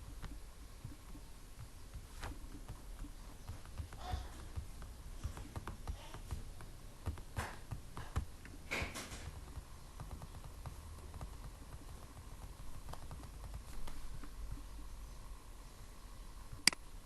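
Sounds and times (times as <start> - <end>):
keyboard and mouse clicks: 0.0 - 14.6
steady low hum: 0.0 - 17.0.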